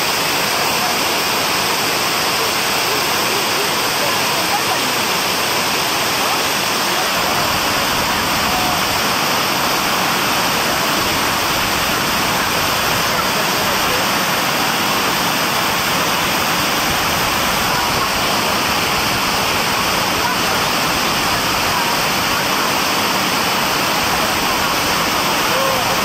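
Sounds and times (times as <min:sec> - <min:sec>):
water rushing down a cascade: 0:00.0 - 0:26.0.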